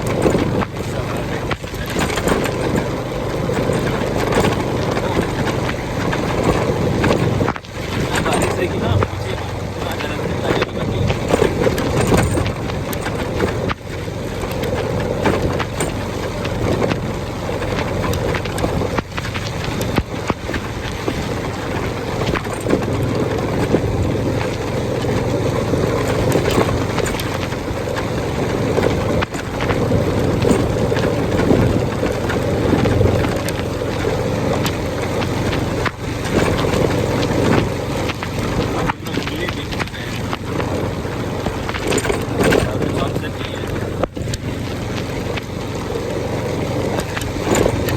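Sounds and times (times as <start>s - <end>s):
motorbike engine and road noise: 0.0s - 47.9s
raindrops ticking on microphone: 0.0s - 47.9s.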